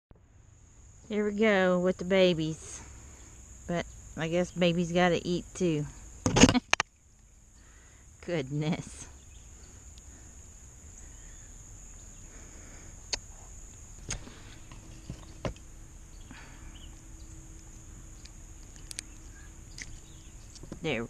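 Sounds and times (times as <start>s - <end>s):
high insect buzz: 0.3s - 21.0s.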